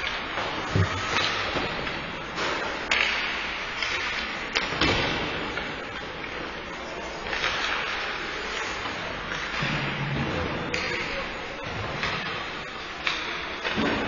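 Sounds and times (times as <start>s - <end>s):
arena noise: 0.0s - 14.0s
hockey sticks cracking puck: 0.0s - 14.0s.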